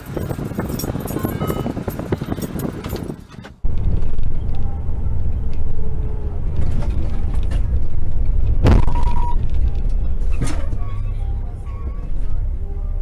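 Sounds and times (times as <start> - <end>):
cab creaks and rattles: 0.0 - 12.6
road noise inside cab: 0.0 - 13.0
truck engine rumble: 0.0 - 13.0.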